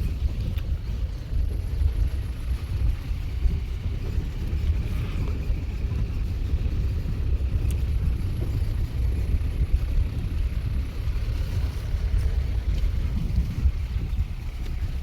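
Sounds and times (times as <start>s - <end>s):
jeep engine and wheels rumbling: 0.0s - 15.0s.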